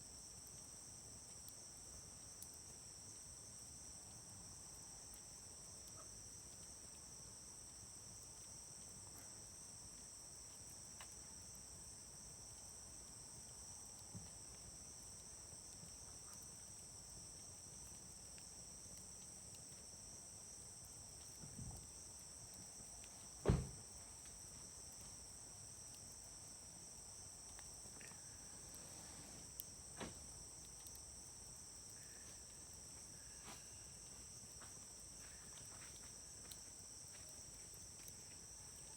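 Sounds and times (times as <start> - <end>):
insects chirring: 3.7 - 38.9.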